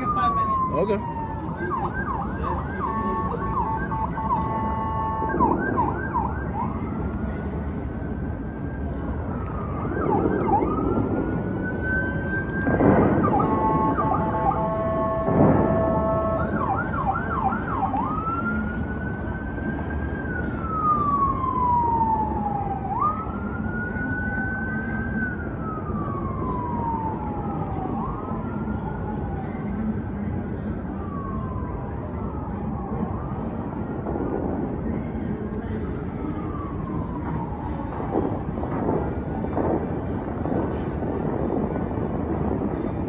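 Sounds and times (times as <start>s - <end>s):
city traffic noise: 0.0s - 43.0s
emergency siren: 0.0s - 43.0s.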